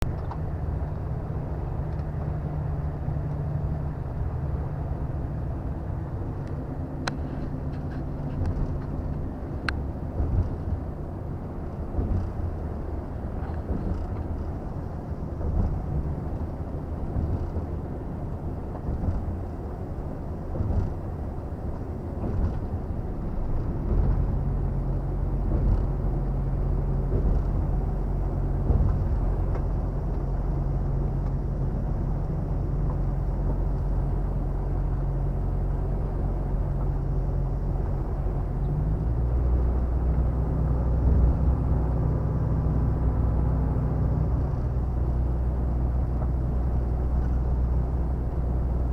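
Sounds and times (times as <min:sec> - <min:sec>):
road noise: 0:00.0 - 0:48.9
truck diesel engine drone: 0:00.0 - 0:48.9.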